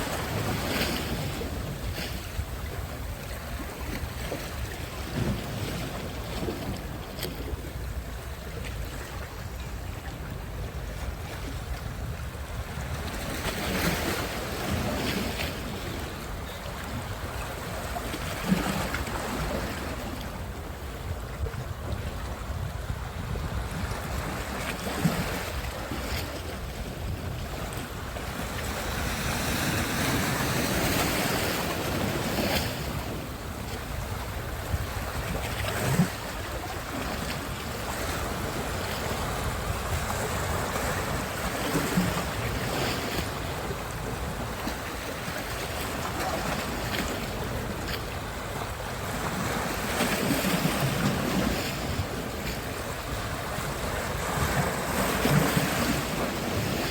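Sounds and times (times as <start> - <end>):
waves washing onto beach: 0.0 - 56.9
wind rumbling on microphone: 0.0 - 56.9.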